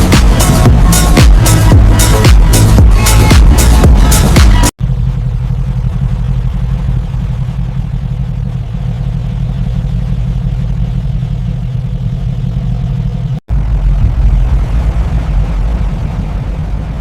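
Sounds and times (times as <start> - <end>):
car engine rumbling steadily: 0.0 - 17.0.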